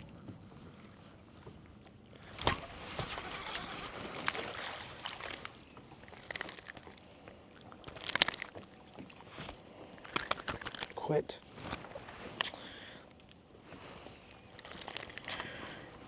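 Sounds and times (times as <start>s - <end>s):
water sloshing around boat: 0.0s - 16.0s.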